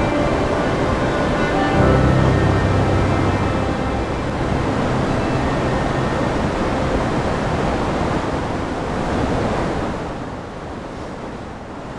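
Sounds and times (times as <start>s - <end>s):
rushing stream water: 0.0s - 11.9s.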